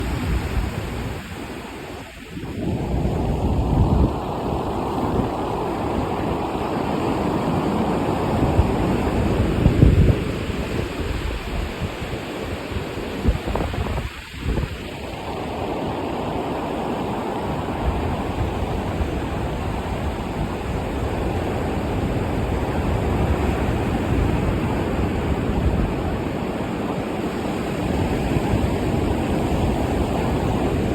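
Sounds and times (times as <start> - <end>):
sea surf breaking: 0.0 - 30.9
wind buffeting microphone: 0.0 - 30.9.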